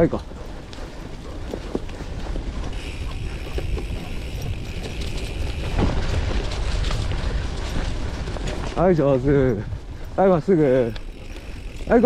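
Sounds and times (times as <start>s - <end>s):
bike clicks and rattles: 0.0s - 12.0s
tyres rolling on dirt: 0.0s - 12.0s
wind buffeting microphone: 0.0s - 12.0s.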